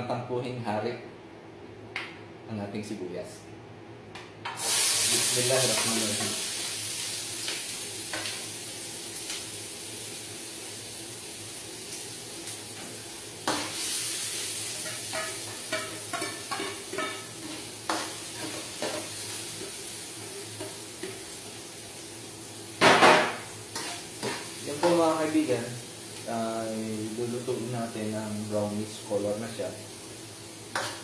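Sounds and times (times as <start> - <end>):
onion sizzling in frying pan oil: 4.6 - 31.0.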